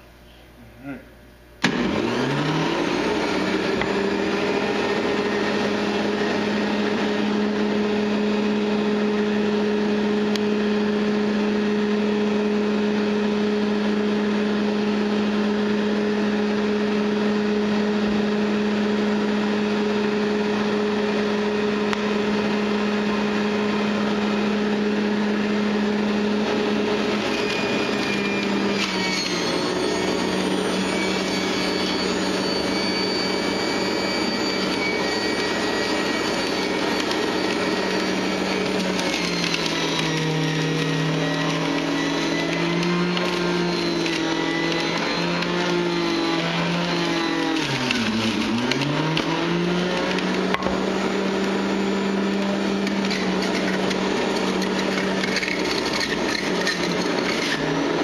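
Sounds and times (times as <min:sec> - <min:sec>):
electric juicer motor humming: 0:01.6 - 0:58.0.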